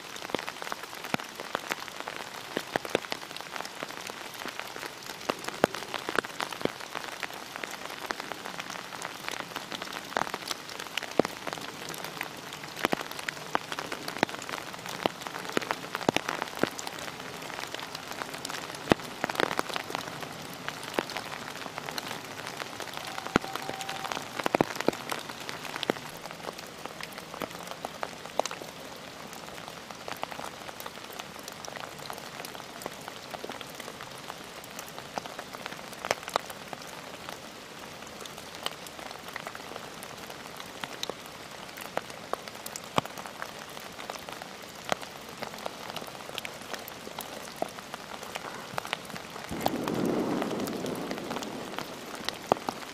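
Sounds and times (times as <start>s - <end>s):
steady rain in woodland: 0.0s - 52.9s.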